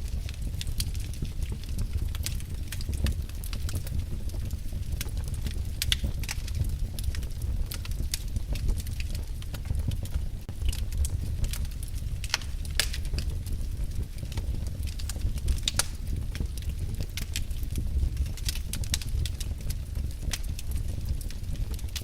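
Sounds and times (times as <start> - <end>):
low rumble of flame: 0.0 - 22.0
wood fire crackling and popping: 0.0 - 22.0.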